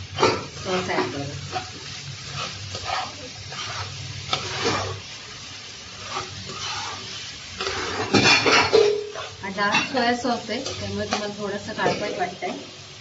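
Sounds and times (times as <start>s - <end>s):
food sizzling in a pan: 0.0s - 13.0s
steel spatula scraping a pan: 0.2s - 5.2s, 5.8s - 12.7s.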